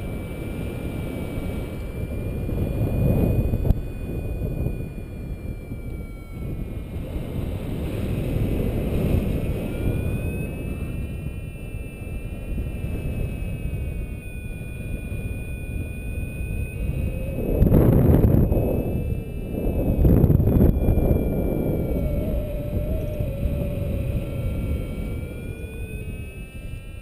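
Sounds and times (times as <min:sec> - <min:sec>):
faint high tones: 0:00.0 - 0:27.0
wind buffeting microphone: 0:00.0 - 0:27.0.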